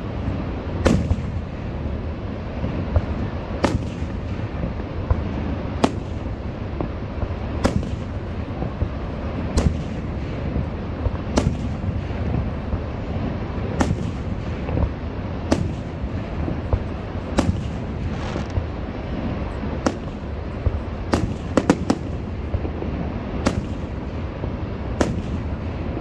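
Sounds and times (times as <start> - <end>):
fireworks pops and crackle: 0.0 - 24.3, 24.9 - 26.0
fireworks bangs: 0.0 - 26.0
steady low rumble: 0.0 - 26.0.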